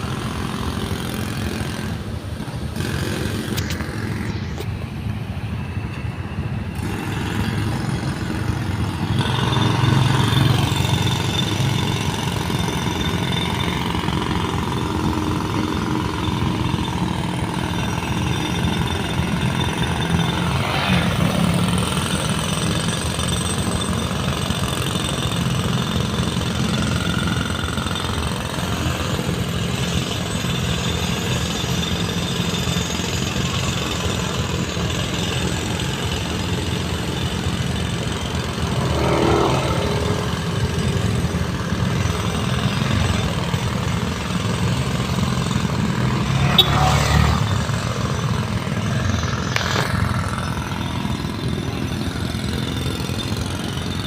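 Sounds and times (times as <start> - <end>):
engine noise: 0.0 - 54.0
road-repair machinery pulsing: 0.0 - 54.0.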